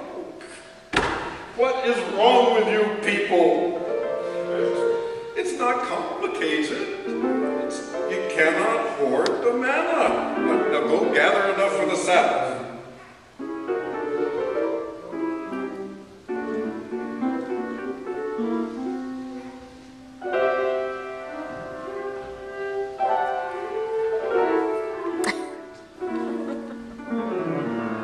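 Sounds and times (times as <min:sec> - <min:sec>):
classical piano music: 0:00.0 - 0:28.0.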